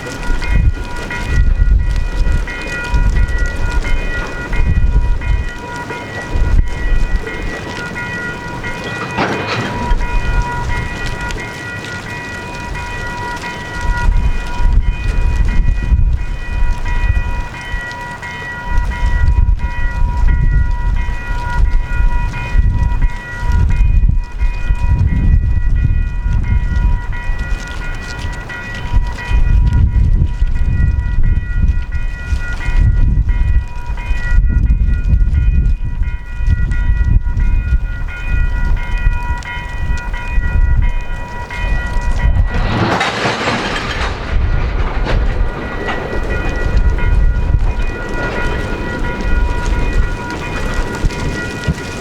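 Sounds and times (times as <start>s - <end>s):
diesel locomotive rumble: 0.0s - 34.6s, 35.4s - 52.0s.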